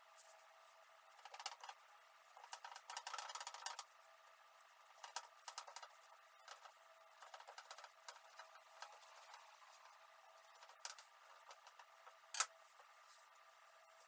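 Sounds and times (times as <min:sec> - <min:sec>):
dough rolling on rolling pin: 0:01.2 - 0:14.0.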